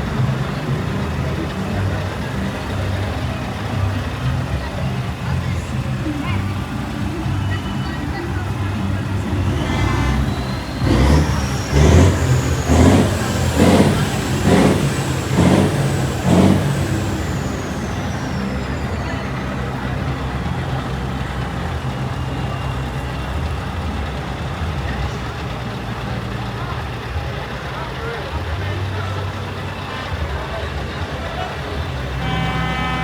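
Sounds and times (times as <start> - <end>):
diesel engine revving and idling: 0.0 - 33.0.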